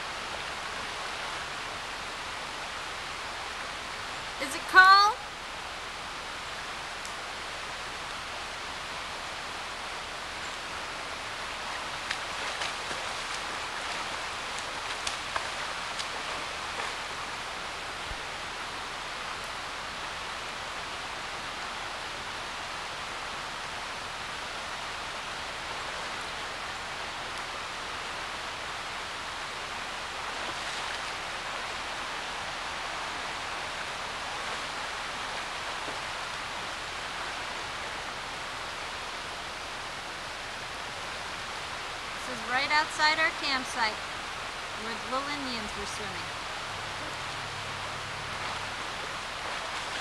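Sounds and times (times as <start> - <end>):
river flowing over rocks: 0.0 - 50.0.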